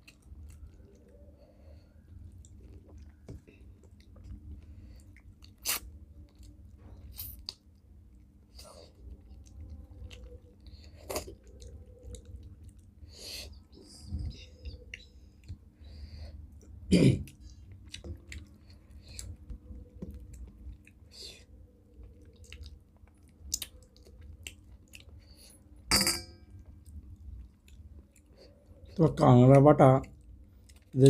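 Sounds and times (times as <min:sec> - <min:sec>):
people chewing food: 0:00.0 - 0:25.9, 0:26.5 - 0:31.0.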